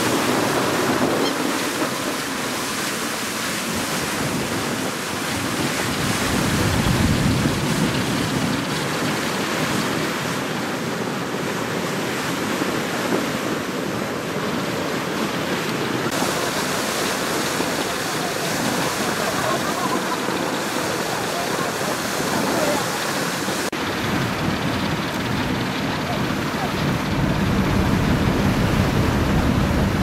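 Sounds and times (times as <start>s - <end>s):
rushing water: 0.0s - 30.0s
wind buffeting microphone: 0.0s - 30.0s.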